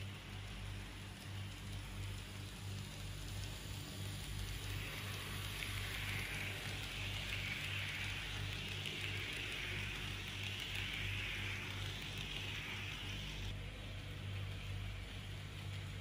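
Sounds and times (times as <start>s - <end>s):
low hum: 0.0s - 16.0s
model train wheels hissing on rails: 0.0s - 16.0s.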